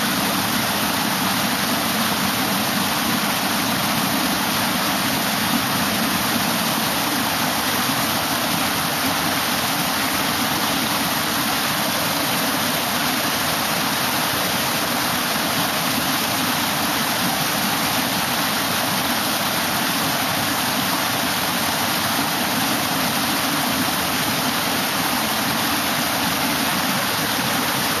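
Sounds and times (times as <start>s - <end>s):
water rushing over weirs: 0.0s - 28.0s.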